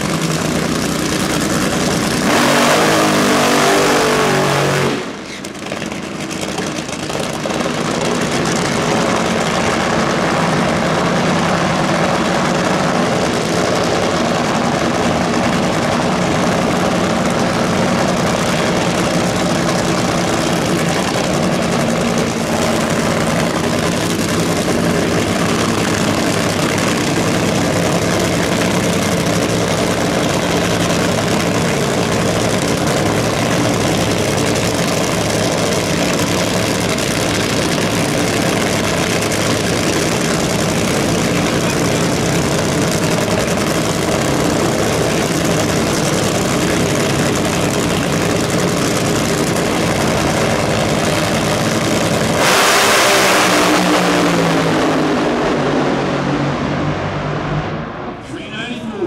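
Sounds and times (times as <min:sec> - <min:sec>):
race car engines idling loudly: 0:00.0 - 0:59.0.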